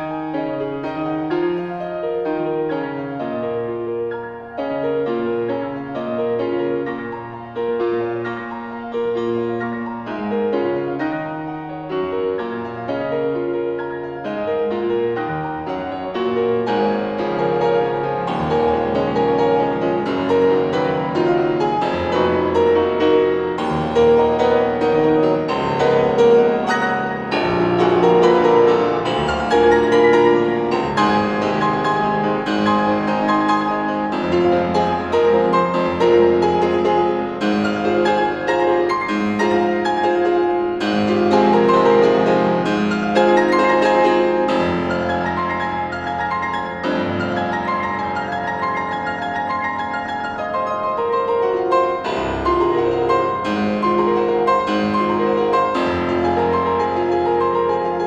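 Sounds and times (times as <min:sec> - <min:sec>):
solo grand piano: 0:00.0 - 0:58.0.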